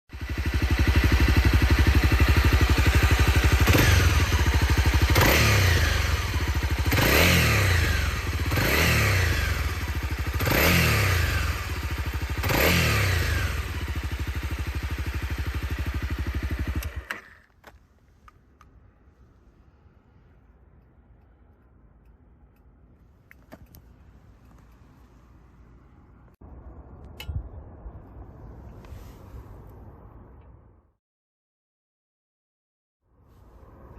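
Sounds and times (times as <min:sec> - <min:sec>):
motorcycle engine idling and revving: 0:00.1 - 0:27.3.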